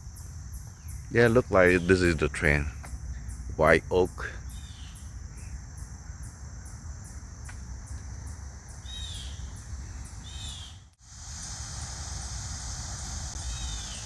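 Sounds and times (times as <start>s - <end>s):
cricket chirping: 0.0s - 14.0s
bird calls: 0.2s - 10.9s, 13.4s - 14.0s.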